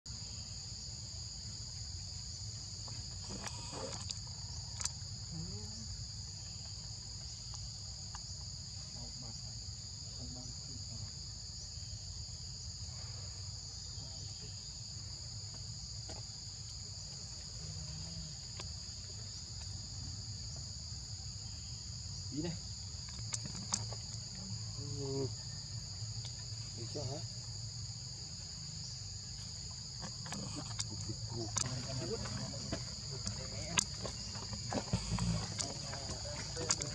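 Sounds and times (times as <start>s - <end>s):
high-pitched insect chorus: 0.1s - 36.9s.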